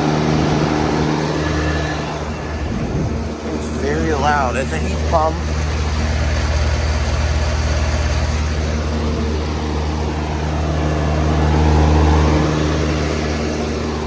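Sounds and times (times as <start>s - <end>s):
compressor humming: 0.0s - 14.0s
condenser fan rushing: 0.0s - 14.0s.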